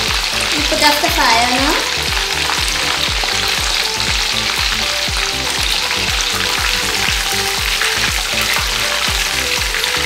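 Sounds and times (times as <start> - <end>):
oil sizzling in deep frying: 0.0 - 10.0.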